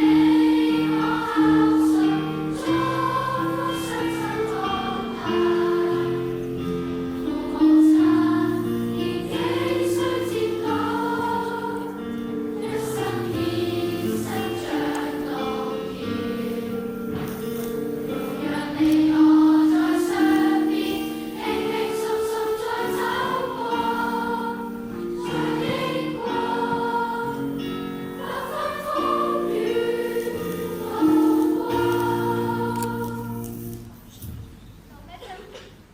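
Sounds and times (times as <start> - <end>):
choir singing a hymn: 0.0 - 33.9.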